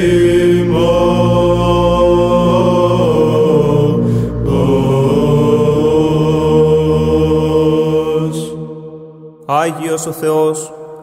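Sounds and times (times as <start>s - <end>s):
men chanting: 0.0s - 8.9s
low held vocal drone: 0.0s - 11.0s.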